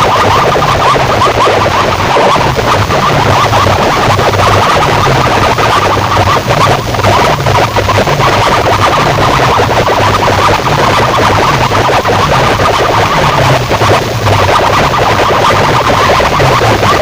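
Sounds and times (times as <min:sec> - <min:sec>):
distorted dance music from speakers: 0:00.0 - 0:17.0
second sound system playing: 0:00.0 - 0:17.0.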